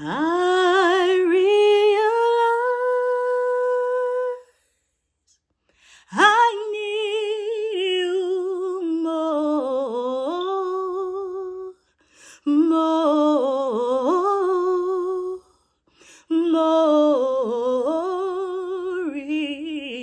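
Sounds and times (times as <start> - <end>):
woman singing gospel unaccompanied: 0.0 - 4.4, 6.0 - 15.5, 16.2 - 20.0.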